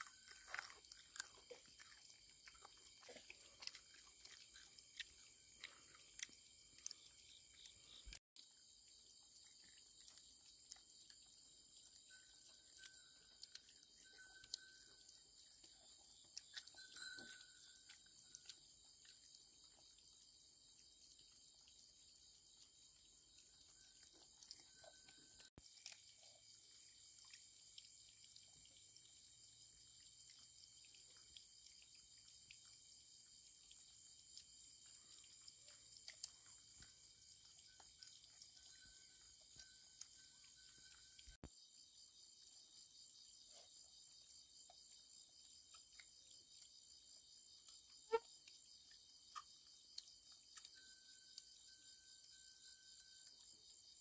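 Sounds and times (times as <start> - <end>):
insect chorus chirring: 0.0 - 54.0.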